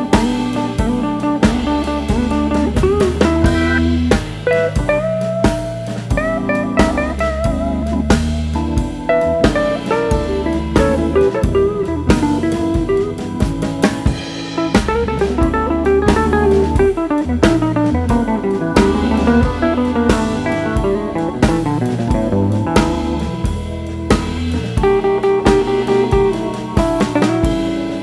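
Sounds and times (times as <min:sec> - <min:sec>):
drum kit beat: 0:00.0 - 0:28.0
guitar-led instrumental music: 0:00.0 - 0:28.0.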